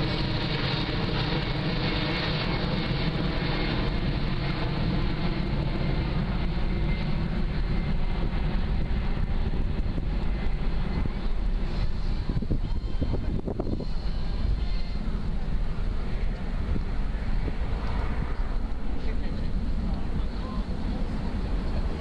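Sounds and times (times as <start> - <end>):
jet aircraft flying over: 0.0 - 22.0.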